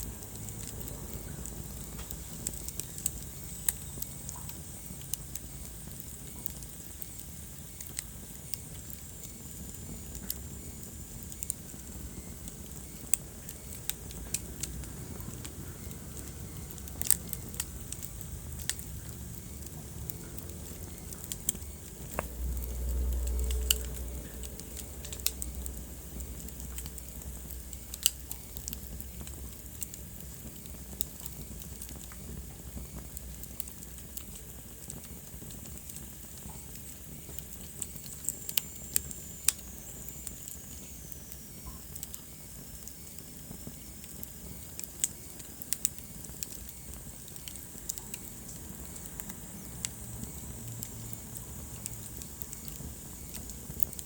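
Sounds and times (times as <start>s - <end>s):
fire crackling and popping: 0.0s - 54.0s
fire low rumble: 0.0s - 54.0s.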